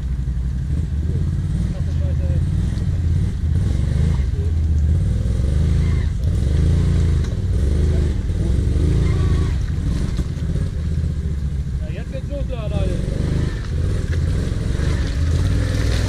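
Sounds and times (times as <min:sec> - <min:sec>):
quad engine revving: 0:00.7 - 0:16.0.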